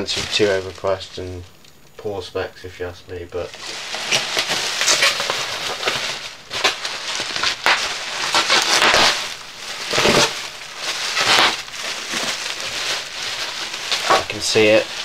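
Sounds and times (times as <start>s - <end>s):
bubble wrap crinkling: 0.0s - 1.6s, 3.4s - 15.0s.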